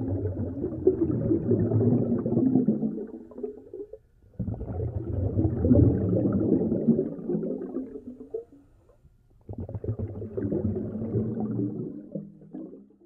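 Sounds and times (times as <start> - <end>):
air bubbles gurgling in water: 0.0 - 13.0.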